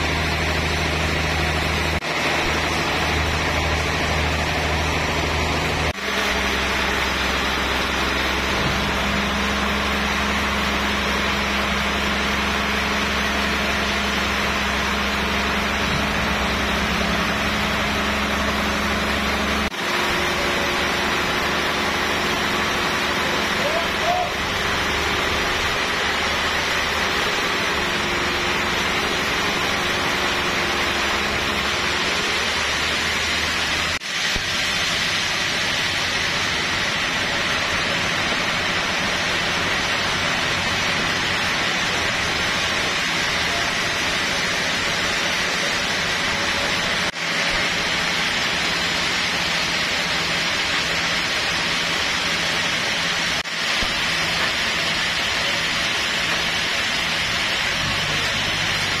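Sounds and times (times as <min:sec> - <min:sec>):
forklift engine running: 0:00.0 - 0:59.0
sawmill machinery din: 0:00.0 - 0:59.0.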